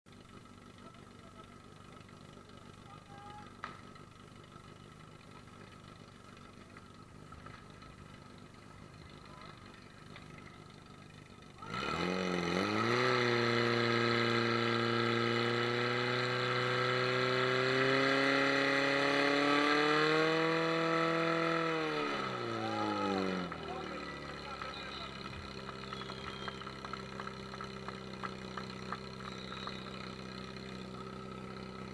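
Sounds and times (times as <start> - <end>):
pump engine at full throttle: 0.1 - 31.9.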